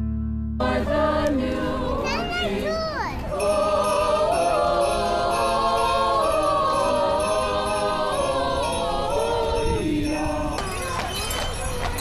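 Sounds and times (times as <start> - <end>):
choir singing in harmony: 0.6 - 11.6.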